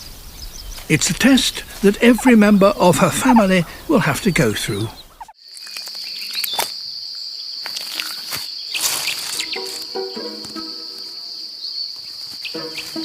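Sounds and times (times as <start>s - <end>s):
insect trilling: 0.9s - 13.0s.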